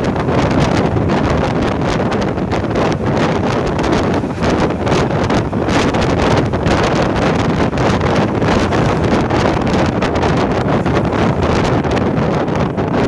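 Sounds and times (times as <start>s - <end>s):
vehicle travelling on road: 0.0s - 13.0s
wind buffeting microphone: 0.0s - 13.0s.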